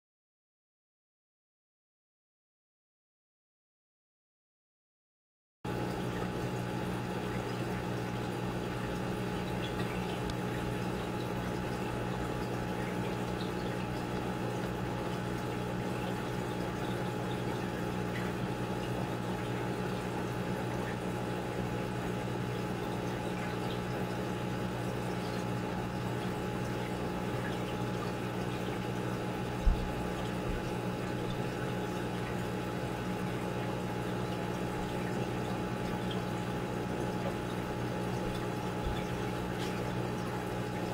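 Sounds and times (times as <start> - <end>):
aquarium pump humming: 5.7 - 40.9
water noise: 5.8 - 40.9.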